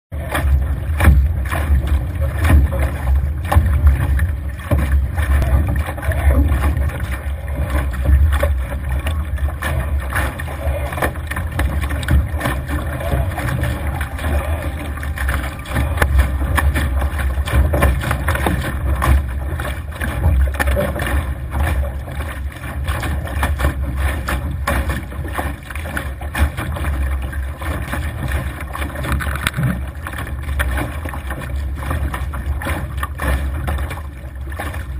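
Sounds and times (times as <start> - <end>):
waves splashing against hull: 0.1 - 34.9.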